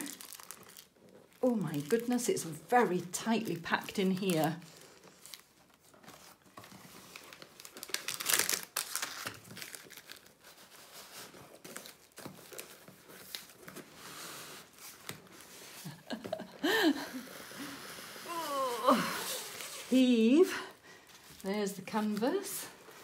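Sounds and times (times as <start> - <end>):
plastic packets and cardboard rustling: 0.0 - 23.0.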